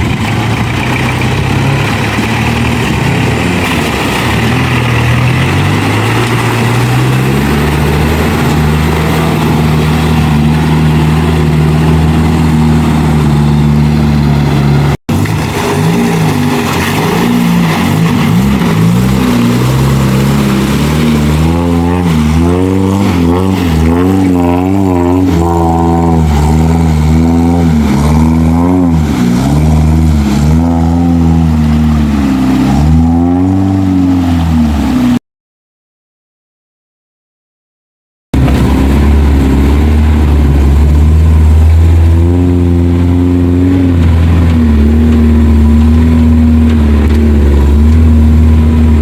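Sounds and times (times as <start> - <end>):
off-road vehicle engine revving: 0.0 - 35.2, 38.4 - 49.0.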